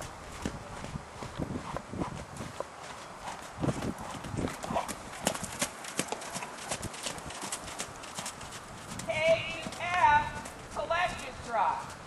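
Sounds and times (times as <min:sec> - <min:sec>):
horse hoofbeats on sand: 0:00.0 - 0:12.0.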